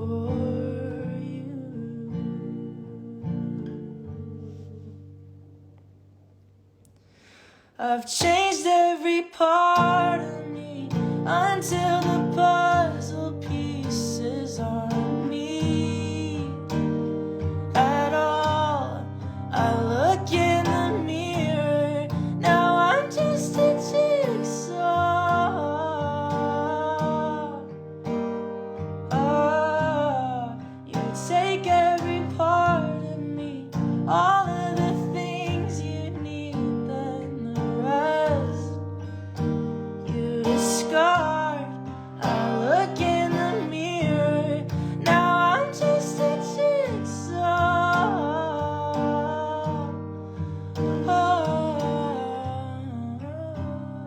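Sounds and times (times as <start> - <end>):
man singing: 0.0 - 4.0, 7.8 - 17.0, 17.7 - 27.7, 29.1 - 38.8, 40.1 - 50.0, 50.8 - 54.0
acoustic guitar strumming: 0.0 - 6.1, 8.1 - 54.0.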